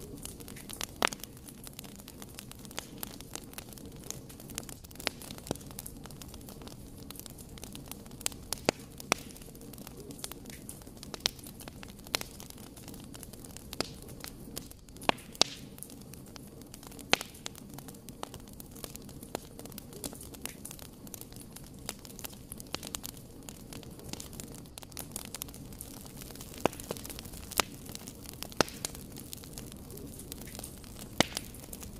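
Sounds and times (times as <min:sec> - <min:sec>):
logs crackling and popping: 0:00.0 - 0:31.9
low rumble of flames: 0:00.0 - 0:31.9.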